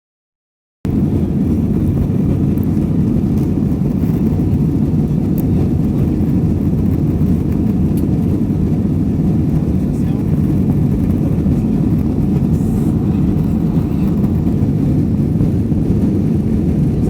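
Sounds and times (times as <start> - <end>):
airliner cabin rumble: 0.9 - 17.0.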